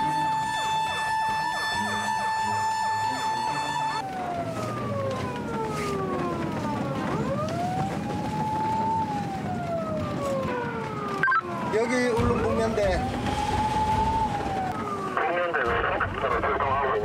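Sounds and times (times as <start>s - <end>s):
fire engine siren wailing: 0.0s - 17.0s.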